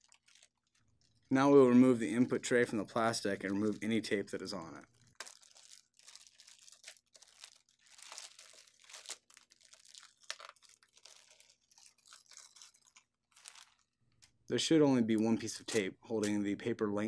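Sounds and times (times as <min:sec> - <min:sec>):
faint plastic bag crinkling: 0:00.0 - 0:14.4.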